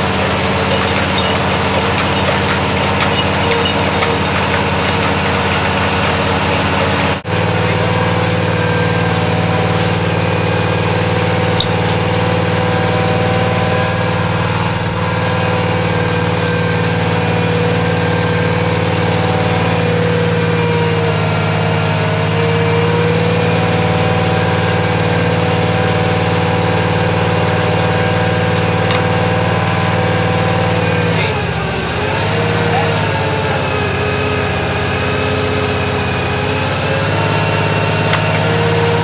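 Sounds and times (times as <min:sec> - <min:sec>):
drilling rig engine running: 0:00.0 - 0:39.0.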